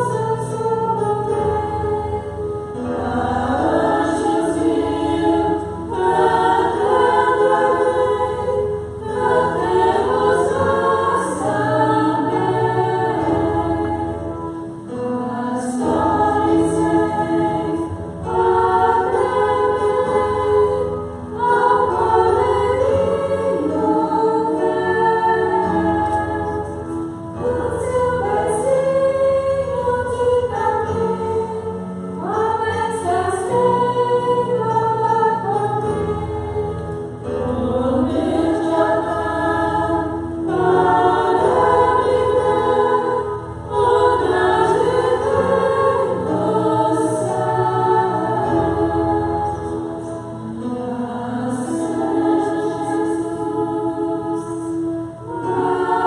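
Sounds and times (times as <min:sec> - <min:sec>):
electronic keyboard sustained low notes: 0:00.0 - 0:56.0
women's choir singing in parts: 0:00.0 - 0:56.0.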